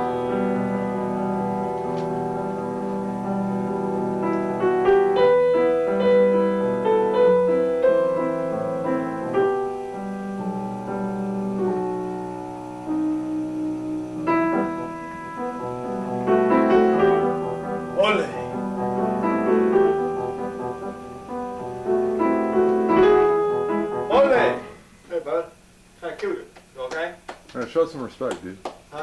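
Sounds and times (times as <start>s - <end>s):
slow classical piano piece: 0.0s - 25.9s.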